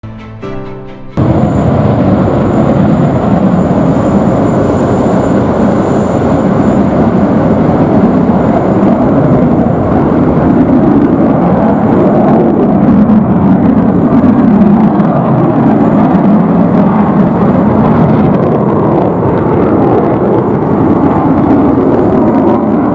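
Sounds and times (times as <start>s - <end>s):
faint high whine: 1.2s - 22.9s
fighter jet rumbling: 1.2s - 22.9s.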